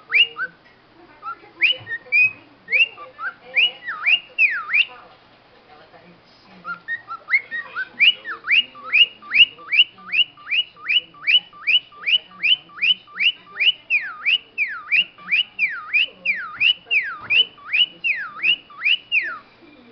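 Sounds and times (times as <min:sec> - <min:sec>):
cockatiel whistling: 0:00.0 - 0:00.6, 0:01.2 - 0:05.0, 0:06.6 - 0:19.9.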